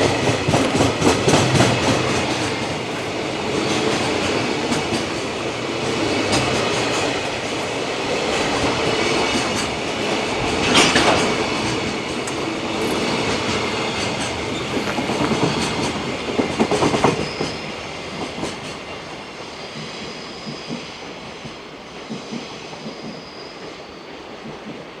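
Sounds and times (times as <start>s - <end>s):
wheels clacking over rail joints: 0.0s - 20.8s
train wagons rolling on rails: 0.0s - 25.0s.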